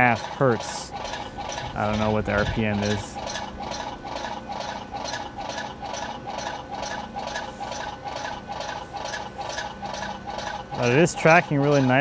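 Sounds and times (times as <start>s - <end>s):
bandsaw mill running: 0.0s - 12.0s.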